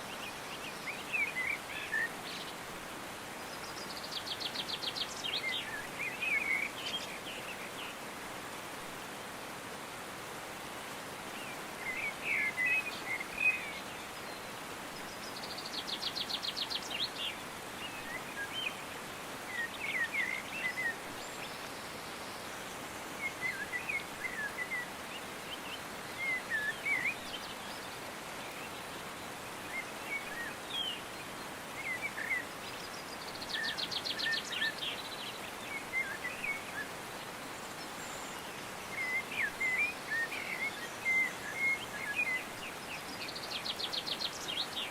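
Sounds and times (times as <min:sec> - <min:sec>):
songbirds chirping: 0:00.0 - 0:44.9
steady background hiss: 0:00.0 - 0:44.9.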